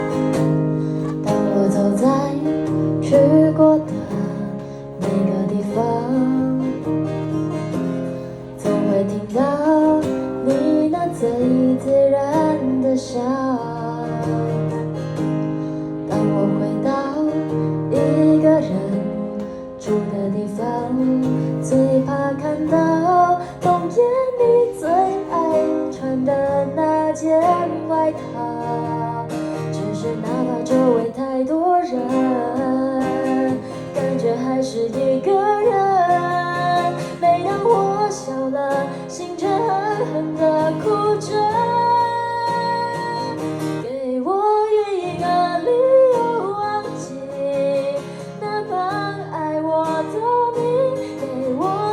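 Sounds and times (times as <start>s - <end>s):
acoustic guitar strumming: 0.0s - 51.9s
woman singing ballad: 0.0s - 51.9s.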